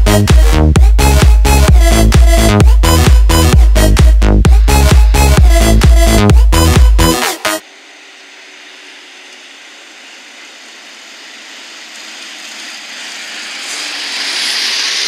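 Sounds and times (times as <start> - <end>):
tractor diesel engine: 0.0 - 15.0.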